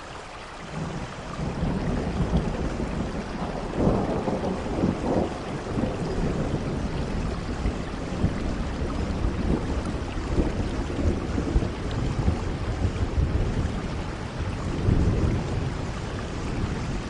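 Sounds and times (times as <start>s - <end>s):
heavy rain: 0.0s - 17.0s
sharp raindrop ticks: 0.7s - 17.0s.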